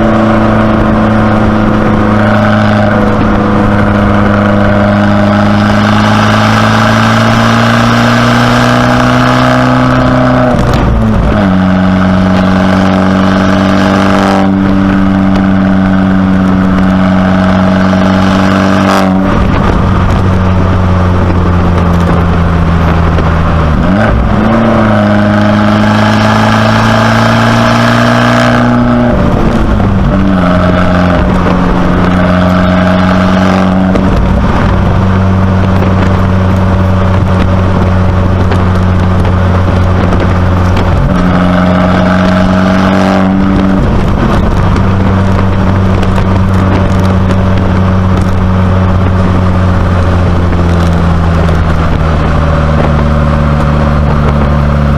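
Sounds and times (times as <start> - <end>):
car engine running while driving: 0.0 - 54.9.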